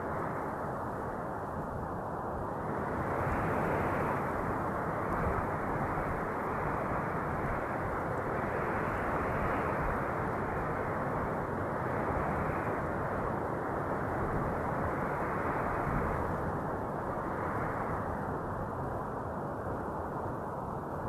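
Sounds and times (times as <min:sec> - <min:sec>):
muffled rushing wind: 0:00.0 - 0:21.0.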